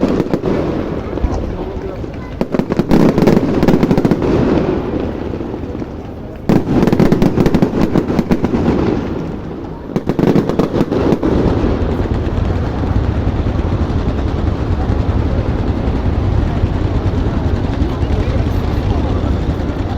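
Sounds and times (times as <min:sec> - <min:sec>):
fireworks bangs and crackling: 0:00.0 - 0:19.9.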